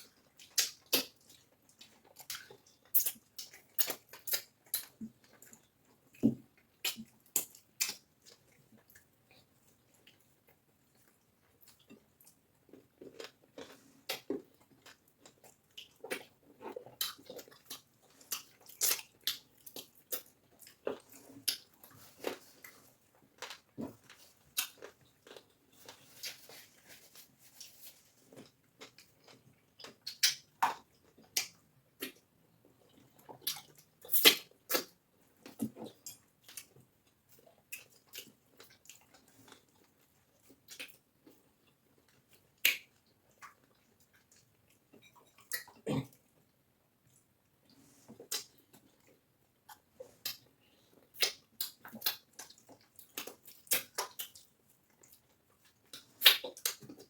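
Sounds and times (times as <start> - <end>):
chewing: 0.0 - 46.5, 47.1 - 57.0.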